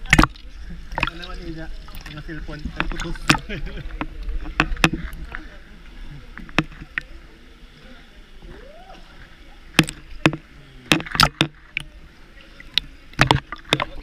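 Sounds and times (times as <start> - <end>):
steady water wash: 0.0 - 14.0
water splashing: 0.0 - 14.0.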